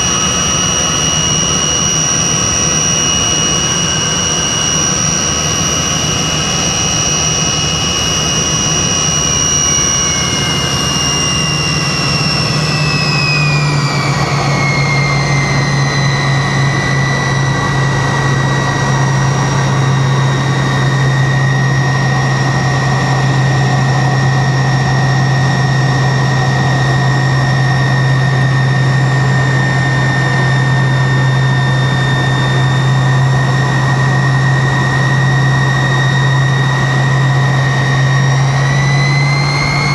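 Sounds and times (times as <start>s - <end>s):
jet engine rumble with whine: 0.0s - 39.9s.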